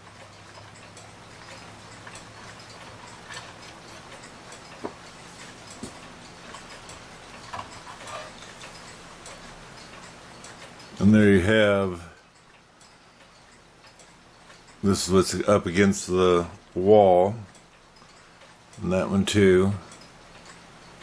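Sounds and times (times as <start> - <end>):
clock ticking: 0.0 - 21.0.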